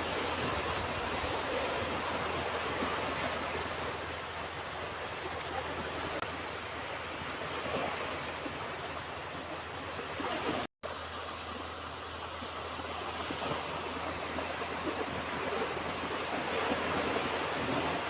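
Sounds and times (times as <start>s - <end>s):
ocean surf washing onto beach: 0.0s - 18.0s.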